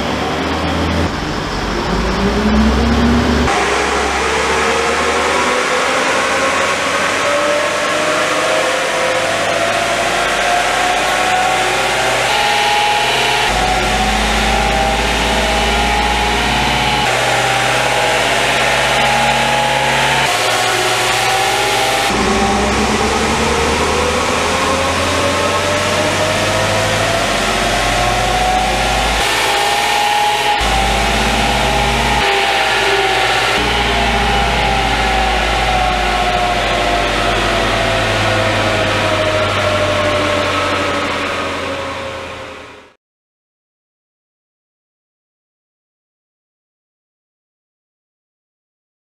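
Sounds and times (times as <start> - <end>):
diesel engine pulling under load: 0.0 - 42.6.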